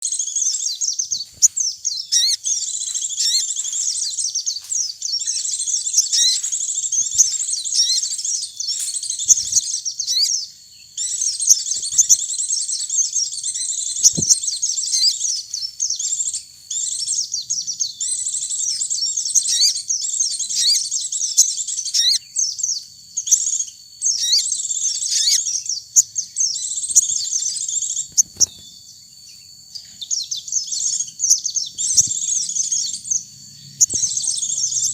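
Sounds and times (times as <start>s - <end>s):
birds twittering song: 0.0s - 34.9s.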